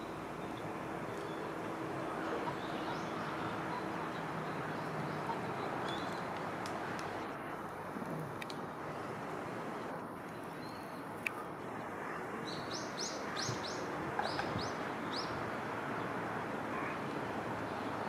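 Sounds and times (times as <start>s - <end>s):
outdoor background rush: 0.0s - 18.0s.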